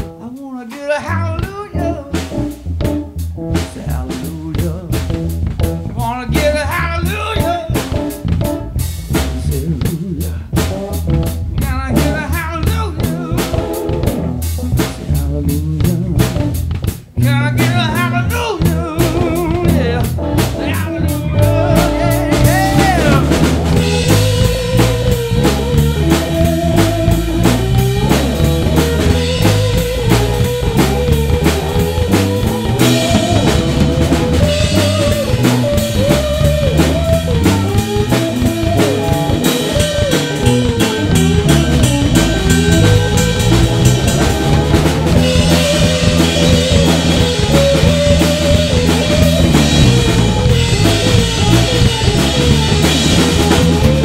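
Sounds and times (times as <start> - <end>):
blues band playing: 0.0 - 54.0
guitar with bent notes: 1.3 - 3.8, 4.5 - 54.0.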